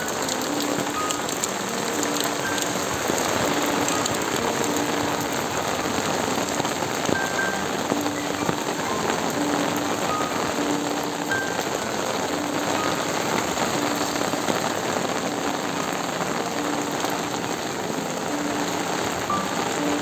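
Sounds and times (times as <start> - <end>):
rain falling: 0.0 - 20.0
soft background music: 0.0 - 20.0
water drips ticking: 0.0 - 20.0.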